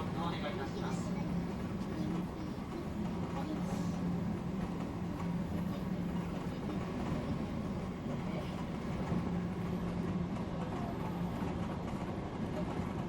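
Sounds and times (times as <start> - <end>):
low train motor hum: 0.0 - 13.0
train wheels rumbling on rails: 0.0 - 13.0.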